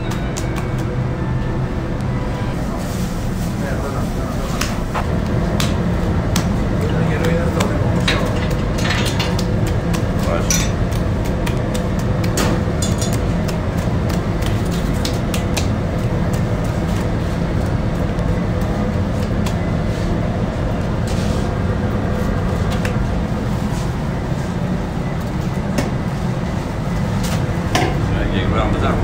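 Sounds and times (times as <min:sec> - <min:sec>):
bakery machinery rumble: 0:00.0 - 0:29.0.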